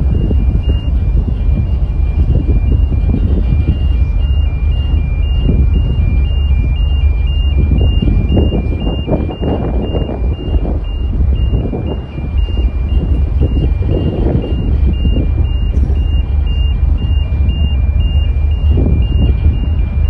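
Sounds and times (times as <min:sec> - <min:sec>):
heavy low rumble: 0:00.0 - 0:20.0
two-tone warning alarm beeping: 0:00.0 - 0:20.0
wind gusts: 0:00.0 - 0:20.0.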